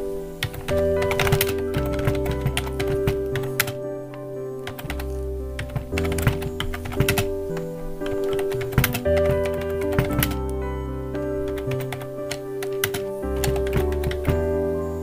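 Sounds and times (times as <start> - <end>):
background music: 0.0 - 15.0
computer keyboard typing: 0.4 - 3.8, 4.6 - 10.6, 11.4 - 14.5.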